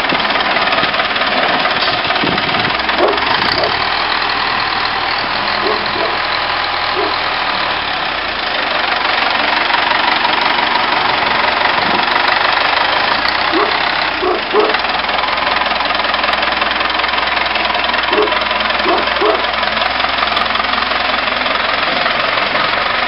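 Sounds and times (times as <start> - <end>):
diesel engine clattering: 0.0 - 23.0.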